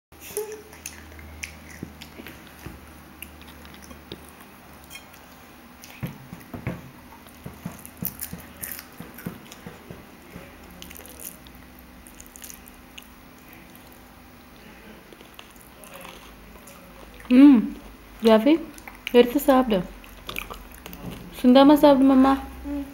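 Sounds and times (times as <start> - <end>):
biting and chewing: 0.2 - 21.4.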